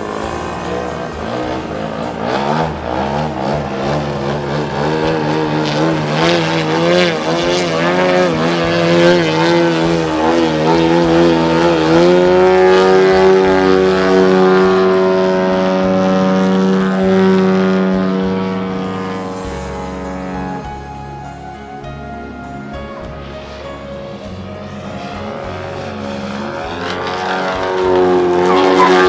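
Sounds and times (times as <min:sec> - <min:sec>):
model plane engine and propeller: 0:00.0 - 0:29.0.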